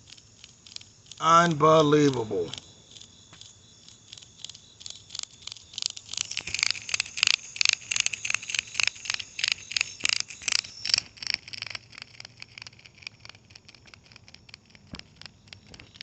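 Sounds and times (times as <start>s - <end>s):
cicada rasping pulses: 0.0s - 16.0s
high-pitched insect chorus: 0.0s - 16.0s.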